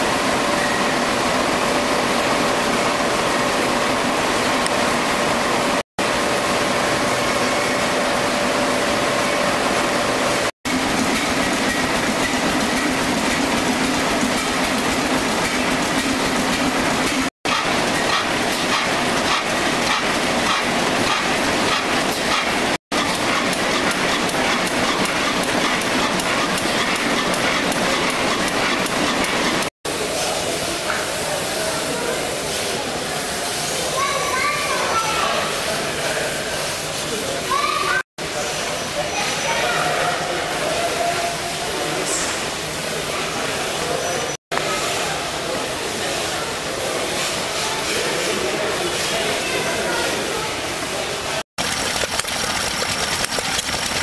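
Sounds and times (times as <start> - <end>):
steam engines clattering and hissing: 0.0 - 54.0.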